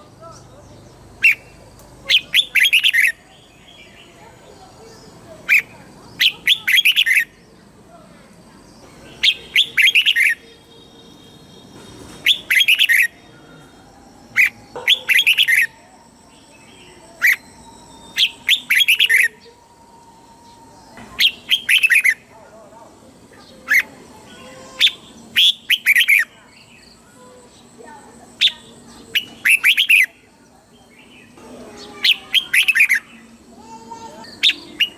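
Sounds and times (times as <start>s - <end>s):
bulbul singing: 0.0s - 34.9s.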